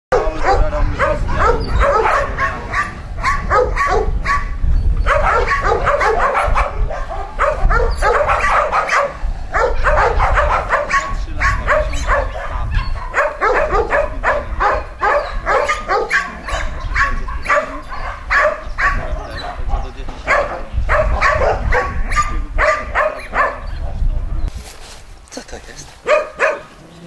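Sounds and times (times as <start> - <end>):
dogs barking and yipping: 0.1 - 24.0, 26.0 - 27.0.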